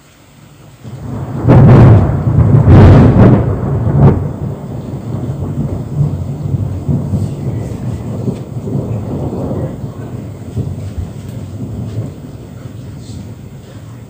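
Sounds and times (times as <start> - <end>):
thunder rumbling: 0.6 - 14.0
thunder crack: 0.8 - 14.0.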